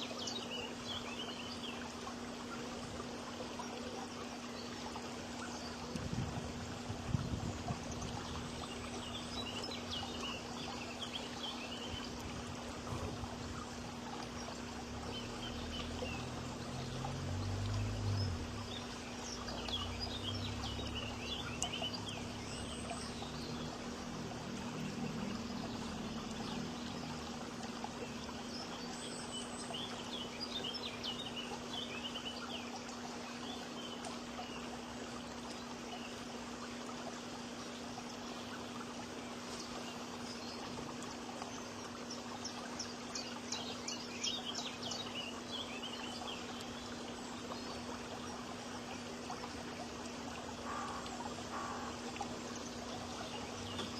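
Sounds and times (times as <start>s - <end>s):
constant low hum: 0.0s - 53.9s
small birds chirping: 7.1s - 34.8s, 37.6s - 53.9s.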